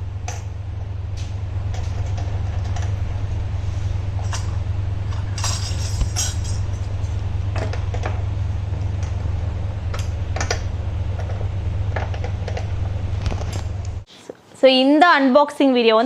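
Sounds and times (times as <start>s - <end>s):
steady low hum: 0.0s - 14.5s.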